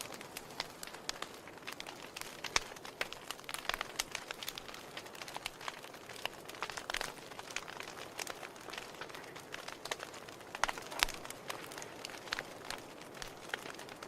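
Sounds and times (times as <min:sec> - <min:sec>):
wood logs burning and crackling: 0:00.0 - 0:14.0.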